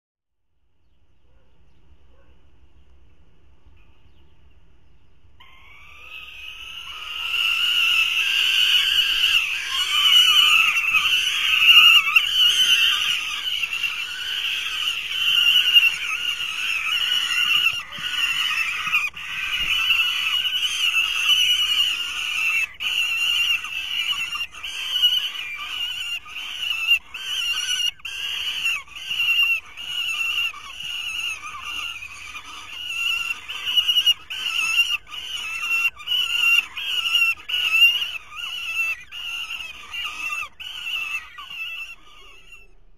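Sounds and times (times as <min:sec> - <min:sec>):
young falcons screaming: 0:05.4 - 0:42.8.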